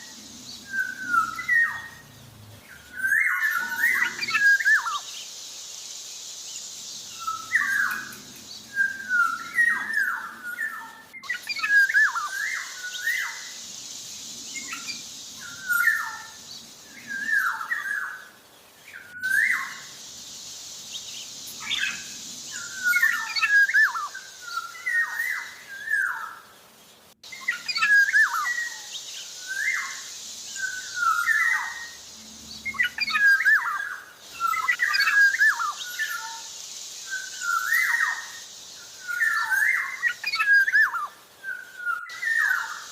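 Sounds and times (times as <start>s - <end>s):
bird singing fluty whistles: 0.0s - 2.0s, 2.8s - 5.1s, 7.1s - 13.6s, 14.5s - 18.2s, 18.9s - 20.2s, 20.9s - 26.3s, 27.3s - 42.9s
steady high hiss: 0.0s - 42.9s.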